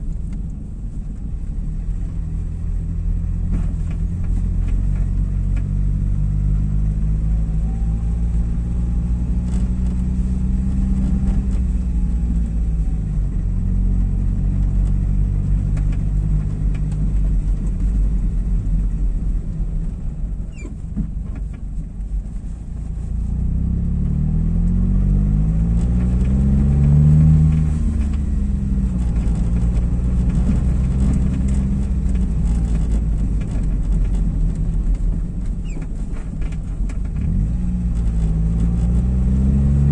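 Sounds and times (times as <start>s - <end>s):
car engine: 0.0s - 39.9s.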